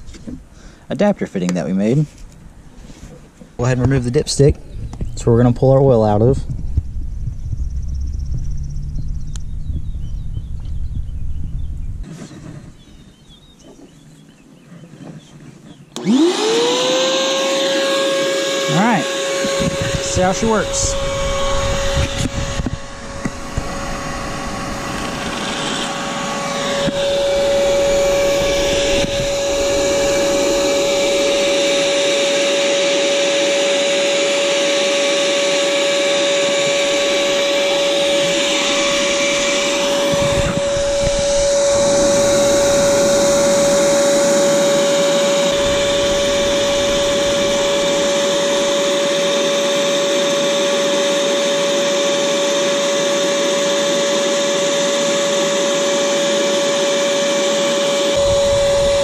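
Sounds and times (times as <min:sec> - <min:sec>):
vacuum cleaner whining: 0:02.8 - 0:10.9, 0:14.9 - 0:59.0.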